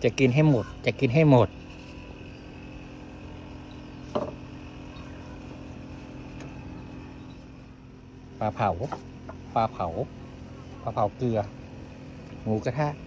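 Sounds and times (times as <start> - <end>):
faint high whine: 0.0 - 13.0
low mechanical hum: 0.0 - 13.0.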